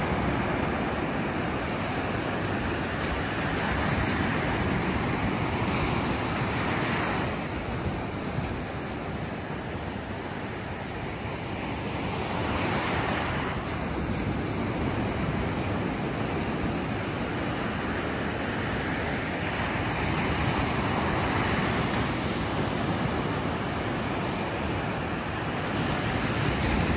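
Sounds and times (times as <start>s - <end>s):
ocean surf breaking on beach: 0.0s - 26.9s.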